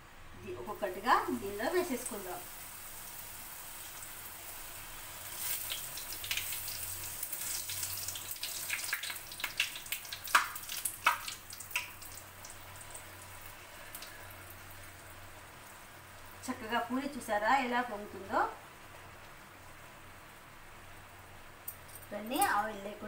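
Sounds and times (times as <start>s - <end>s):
dough sizzling in hot oil: 0.5s - 23.0s.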